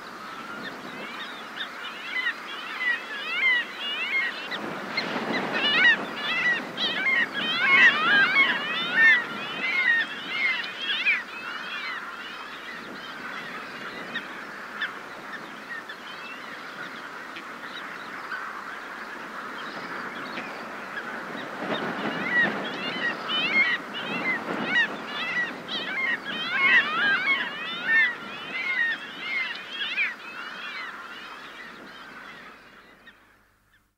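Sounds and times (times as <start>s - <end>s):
sea and wind: 0.0s - 33.8s
seabirds calling: 0.0s - 33.9s
skylark singing: 0.6s - 17.1s, 19.4s - 32.6s.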